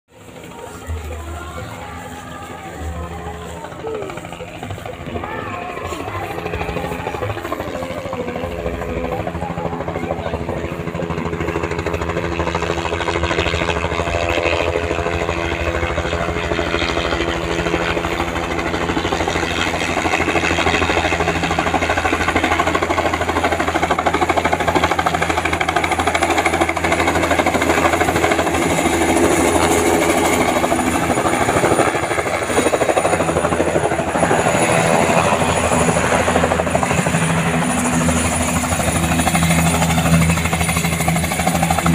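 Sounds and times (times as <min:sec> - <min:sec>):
helicopter rotor chop and engine: 0:00.1 - 0:41.9.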